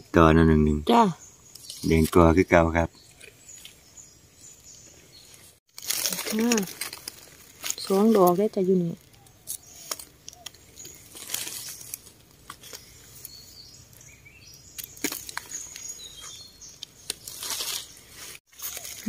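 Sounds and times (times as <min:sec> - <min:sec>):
small birds chirping: 0:00.0 - 0:19.0
rustling of dry leaves and twigs: 0:03.0 - 0:19.0.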